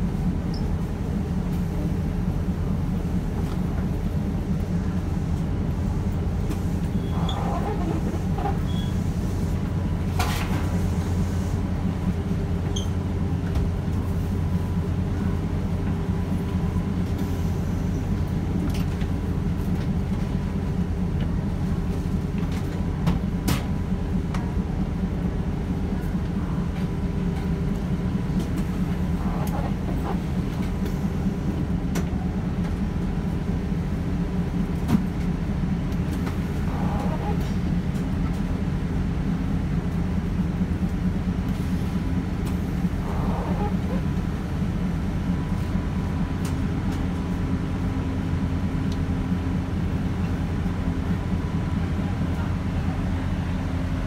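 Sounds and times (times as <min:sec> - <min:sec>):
train machinery humming: 0:00.0 - 0:54.0.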